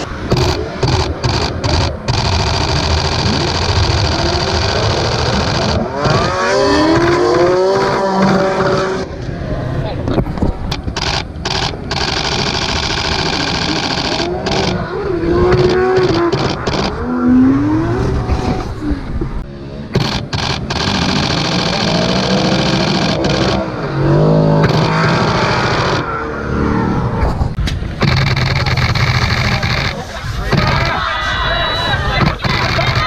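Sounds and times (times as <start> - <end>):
car engines revving hard: 0.0 - 31.0.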